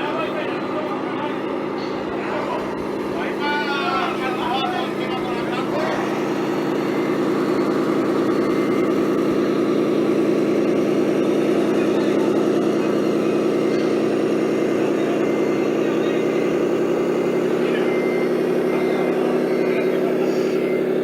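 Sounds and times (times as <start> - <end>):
model vehicle engine drone: 0.0 - 21.0.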